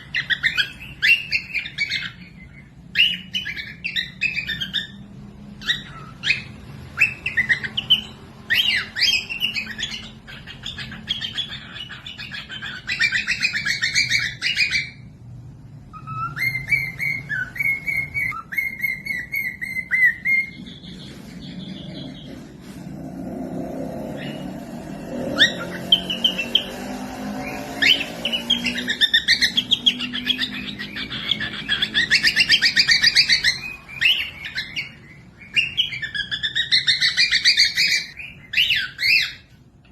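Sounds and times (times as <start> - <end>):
cockatiels chirping: 0.0 - 39.9.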